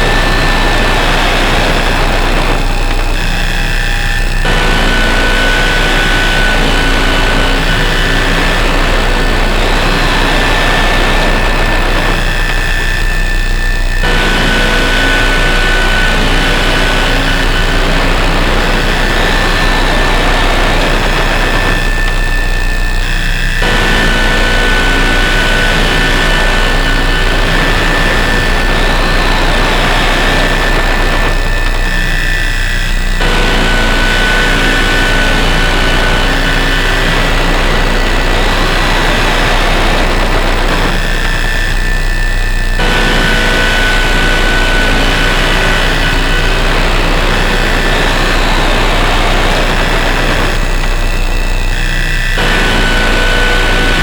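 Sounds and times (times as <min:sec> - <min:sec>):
harsh noise drone: 0:00.0 - 0:54.0
steady deep hum: 0:00.0 - 0:54.0.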